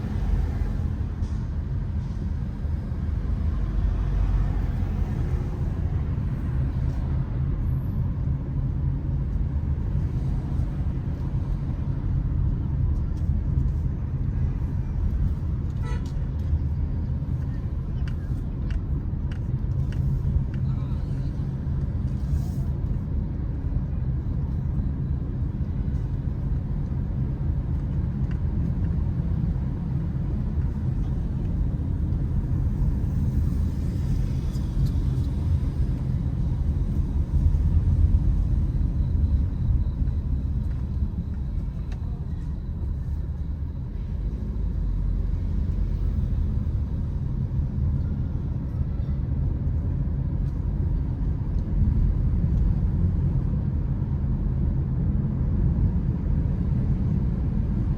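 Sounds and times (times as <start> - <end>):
car driving low rumble: 0.0 - 57.9.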